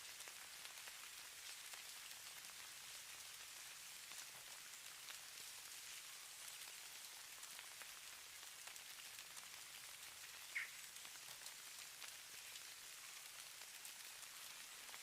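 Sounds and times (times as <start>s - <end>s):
snow pattering on a surface: 0.0s - 15.0s.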